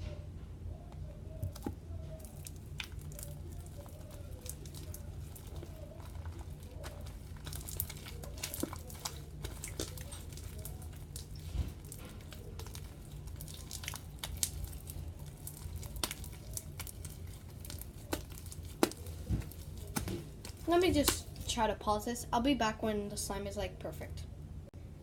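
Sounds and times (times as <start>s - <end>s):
steady low hum: 0.0s - 25.0s
slime squelching by hand: 1.2s - 21.8s.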